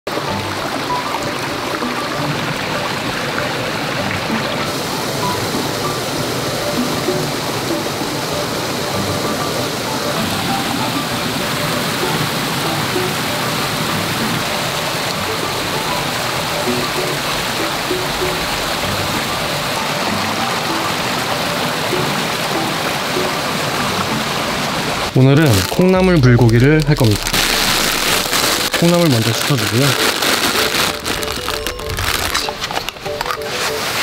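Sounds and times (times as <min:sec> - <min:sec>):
soft background music: 0:00.1 - 0:34.0
stream rushing over rocks: 0:00.1 - 0:34.0.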